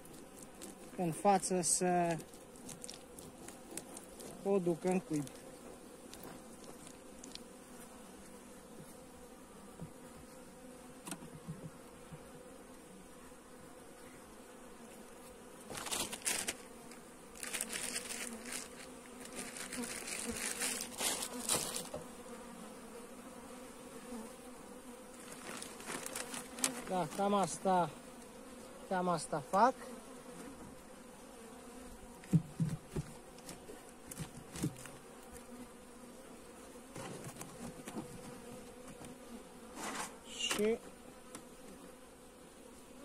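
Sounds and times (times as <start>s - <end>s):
wooden hive frames scraping: 0.0s - 8.1s, 8.8s - 12.4s, 15.3s - 24.2s, 24.8s - 28.6s, 29.4s - 35.6s, 36.8s - 41.6s
honeybees buzzing: 0.0s - 43.0s.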